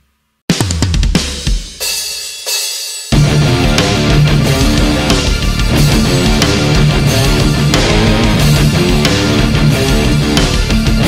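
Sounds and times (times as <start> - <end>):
rock music: 0.6 - 11.0.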